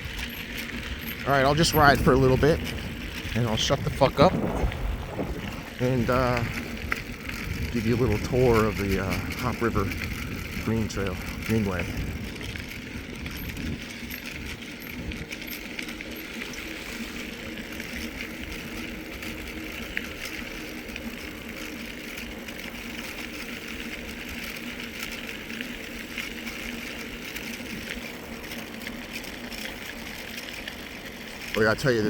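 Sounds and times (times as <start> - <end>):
bike tyres rolling on gravel: 0.0 - 32.0
low wind rumble: 0.0 - 32.0
small clicks and rattles: 0.0 - 32.0.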